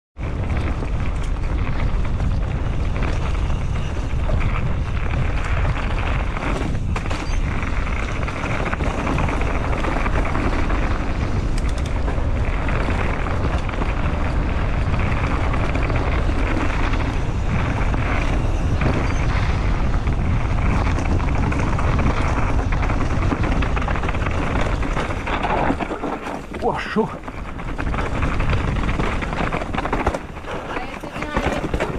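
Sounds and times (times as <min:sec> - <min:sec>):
bike knocking over rough ground: 0:00.2 - 0:31.9
tyre and wind rush: 0:00.2 - 0:31.9.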